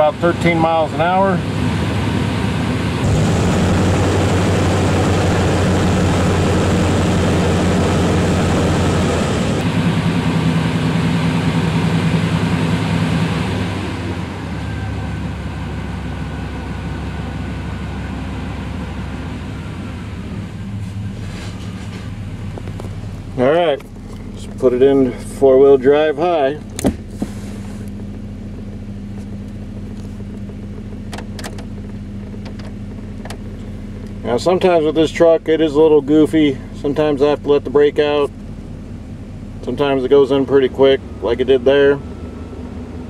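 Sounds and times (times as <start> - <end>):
vehicle drivetrain humming: 0.0 - 43.0.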